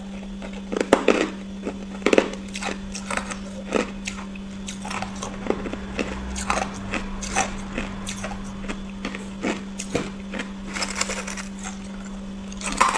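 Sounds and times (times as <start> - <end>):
frost being chewed: 0.0 - 12.9
low hum: 1.6 - 12.9.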